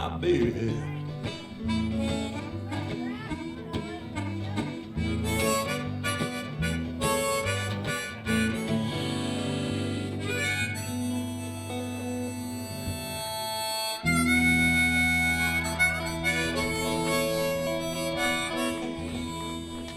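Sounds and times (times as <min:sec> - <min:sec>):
blues band playing: 0:00.0 - 0:19.9
harmonica bending notes: 0:00.6 - 0:19.9.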